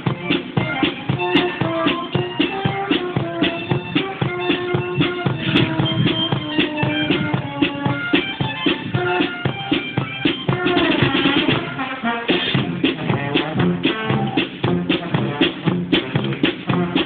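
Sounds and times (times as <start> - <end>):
held melody notes: 0.0 - 17.0
steady drum beat: 0.0 - 17.0.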